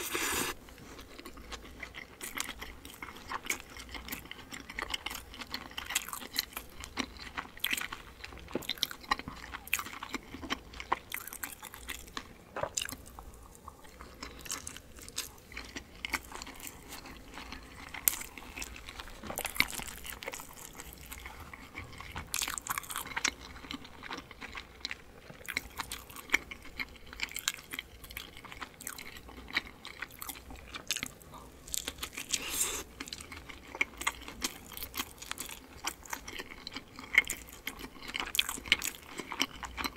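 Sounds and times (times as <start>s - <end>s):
person chewing dumplings: 0.0s - 39.9s.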